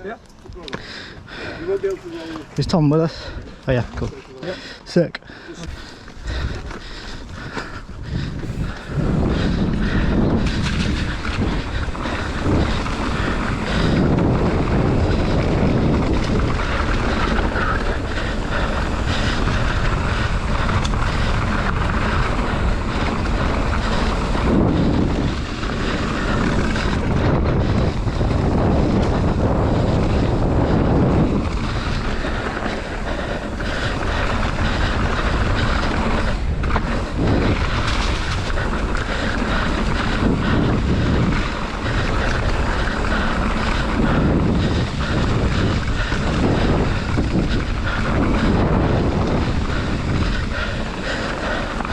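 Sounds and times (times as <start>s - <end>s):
bike tyres rumbling on dirt: 0.0s - 51.9s
wind on microphone: 5.3s - 51.9s.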